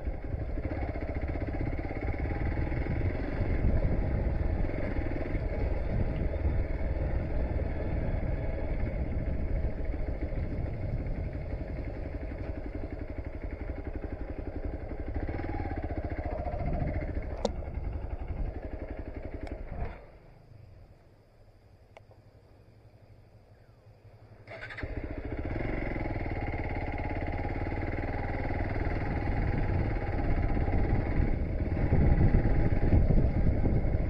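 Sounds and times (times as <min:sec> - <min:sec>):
motorcycle engine running: 0:00.0 - 0:20.9, 0:23.9 - 0:34.0.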